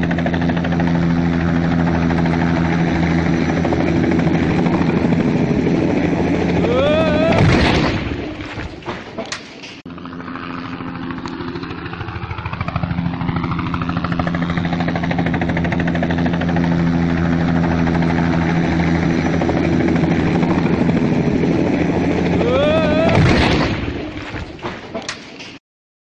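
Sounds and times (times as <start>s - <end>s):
helicopter engine drone: 0.0s - 8.6s, 9.7s - 24.4s
helicopter rotor blades chopping: 0.0s - 25.4s.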